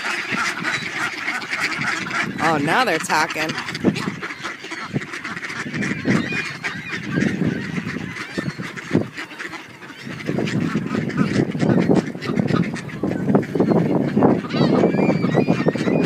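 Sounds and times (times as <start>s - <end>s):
ducks quacking: 0.0s - 16.0s
geese honking: 0.0s - 16.0s.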